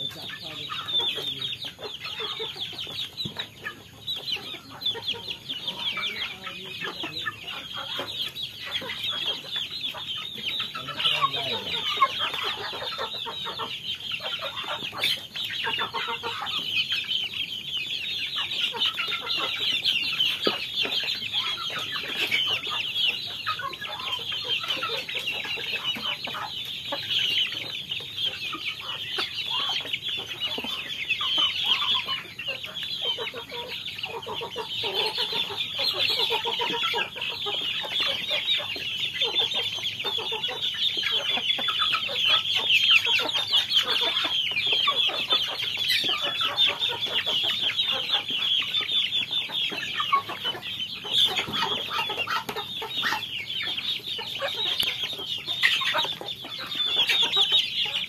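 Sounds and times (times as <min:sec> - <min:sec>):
chicks peeping and cheeping: 0:00.0 - 0:58.0.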